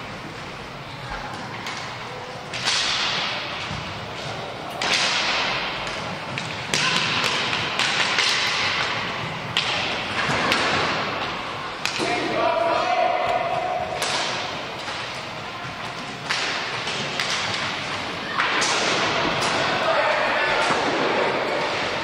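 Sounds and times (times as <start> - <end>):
rink background noise: 0.0 - 22.0
hockey sticks striking puck: 1.3 - 22.0.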